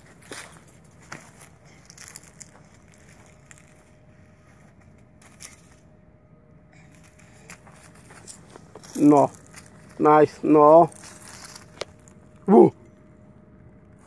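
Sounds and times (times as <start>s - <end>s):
dry leaves crackling underfoot: 0.0s - 5.8s, 6.8s - 12.7s.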